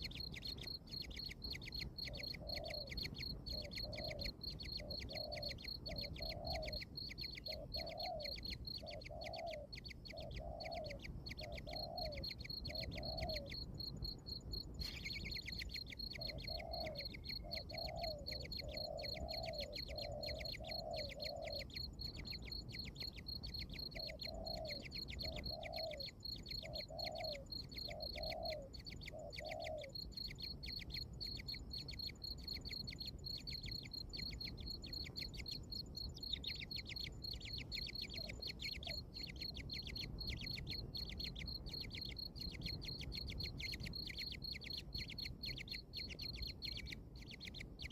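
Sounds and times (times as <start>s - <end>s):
high insect chirping: 0.0s - 47.9s.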